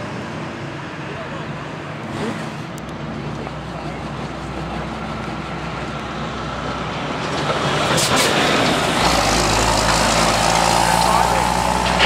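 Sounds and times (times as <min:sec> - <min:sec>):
diesel truck passing by: 0:00.0 - 0:12.0.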